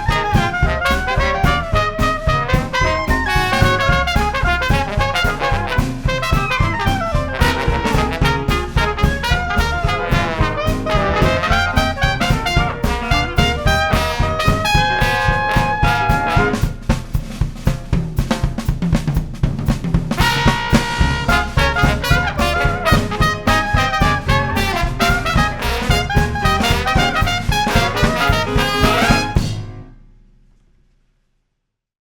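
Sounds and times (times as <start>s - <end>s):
jazz band playing: 0.0s - 30.0s.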